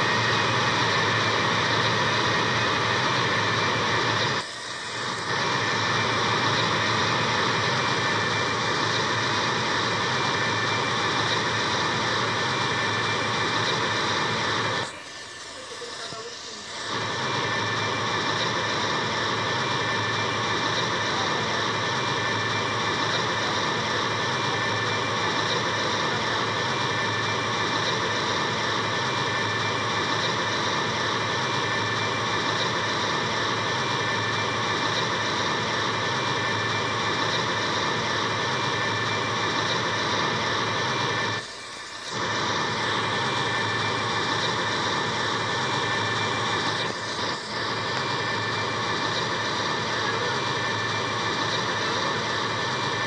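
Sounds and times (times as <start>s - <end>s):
jet-like roar of fire: 0.0s - 53.0s.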